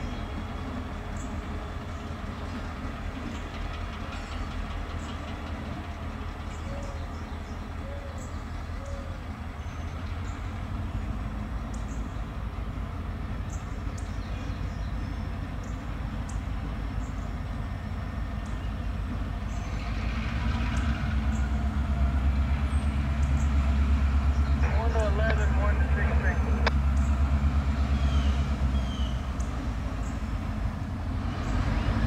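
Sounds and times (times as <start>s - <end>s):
locomotive engine drone: 0.0s - 32.0s.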